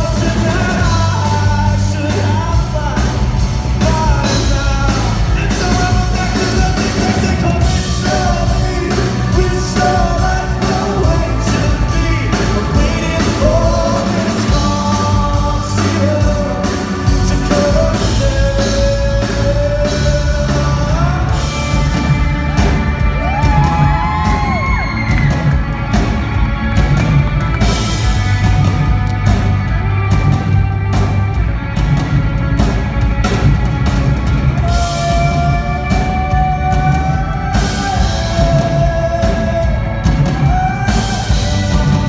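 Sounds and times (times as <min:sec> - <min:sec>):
man singing rock song: 0:00.0 - 0:26.0, 0:34.2 - 0:42.0
live band playing: 0:00.0 - 0:42.0.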